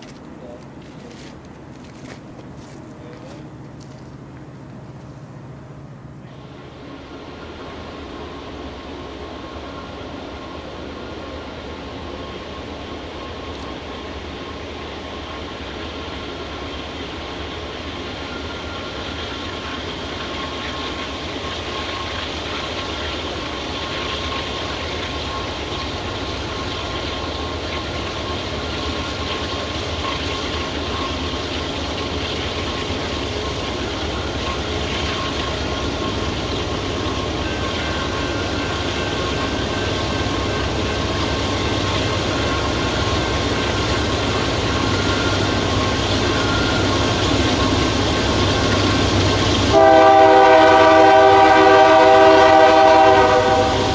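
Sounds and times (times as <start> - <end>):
diesel train engine hum: 0.0 - 53.9
rail rumble: 0.0 - 53.9.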